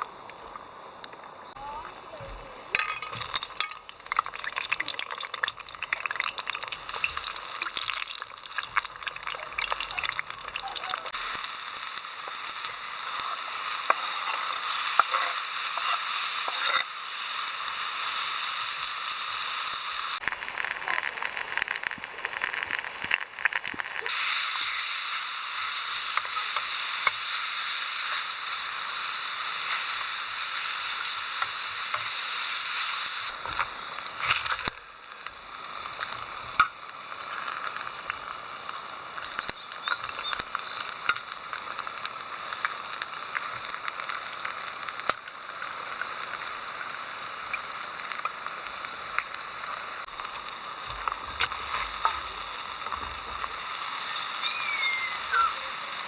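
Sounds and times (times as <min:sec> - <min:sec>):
food sizzling in a hot pan: 0:00.0 - 0:56.0.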